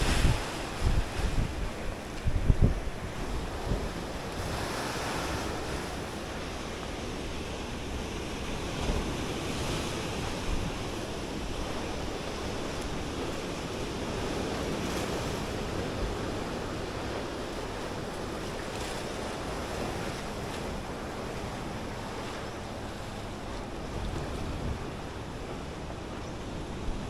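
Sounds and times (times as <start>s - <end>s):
waves breaking against rocks: 0.0s - 27.0s.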